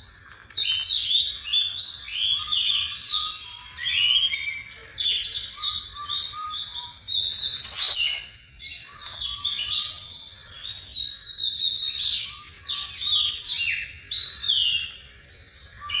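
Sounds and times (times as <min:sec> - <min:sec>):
small birds chirping and singing: 0:00.0 - 0:16.0.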